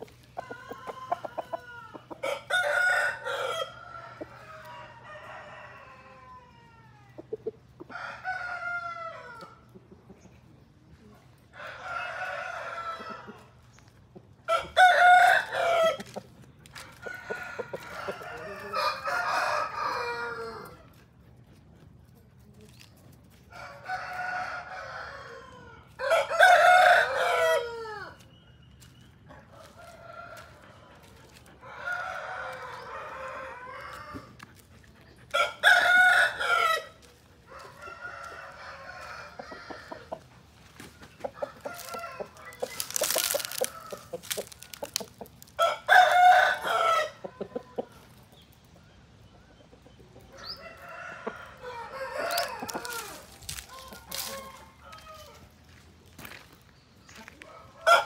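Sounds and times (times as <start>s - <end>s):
roosters crowing: 0.0s - 9.7s, 11.5s - 13.7s, 14.4s - 21.0s, 23.5s - 28.3s, 29.3s - 34.5s, 35.3s - 48.2s, 50.2s - 56.5s, 57.1s - 58.0s.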